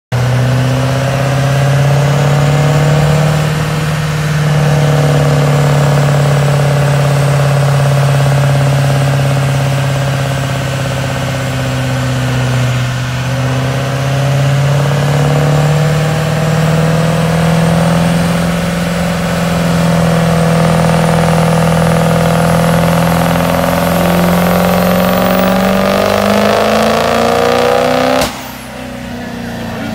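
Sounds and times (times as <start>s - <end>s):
diesel engine running under load: 0.1s - 29.9s
high whine: 0.2s - 29.9s.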